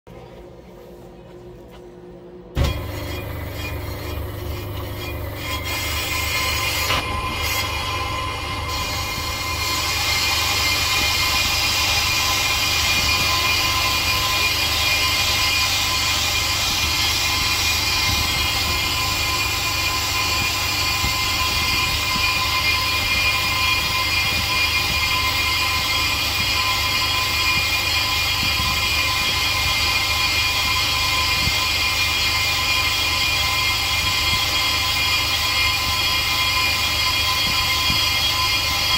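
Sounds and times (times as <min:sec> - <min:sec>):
lathe motor hum with whine: 0:02.1 - 0:38.9.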